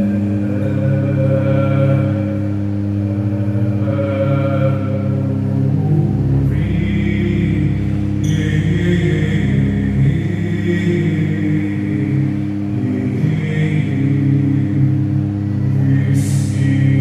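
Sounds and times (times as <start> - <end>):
pipe organ playing chords: 0.0 - 17.0.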